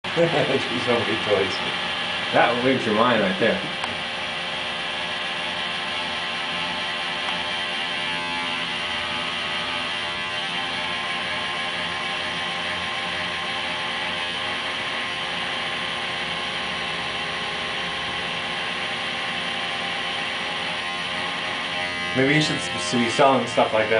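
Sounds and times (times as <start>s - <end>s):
machine whirring and humming: 0.0s - 23.9s.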